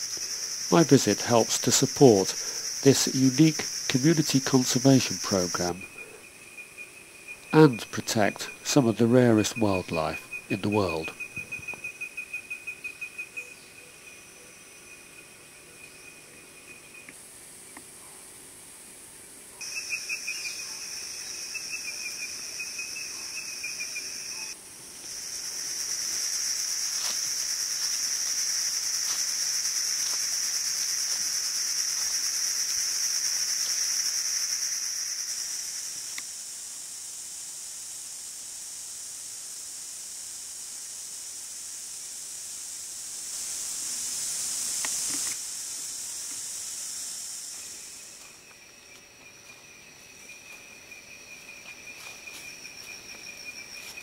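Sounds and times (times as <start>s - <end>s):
insects shrilling and trilling: 0.0s - 54.0s.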